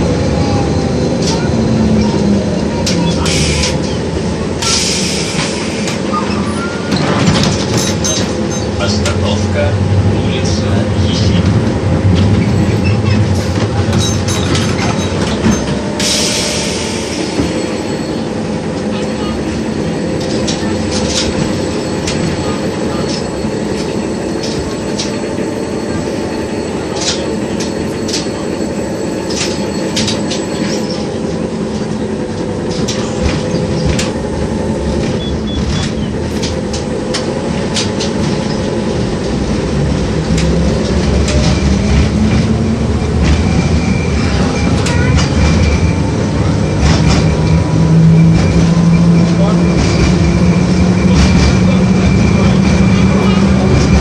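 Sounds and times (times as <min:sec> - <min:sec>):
tram rumbling on rails: 0:00.0 - 0:54.0.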